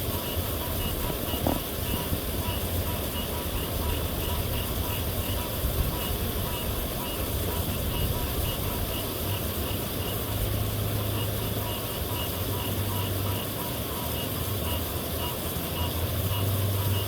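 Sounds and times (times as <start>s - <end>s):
water pouring over a dam spillway: 0.0s - 17.0s.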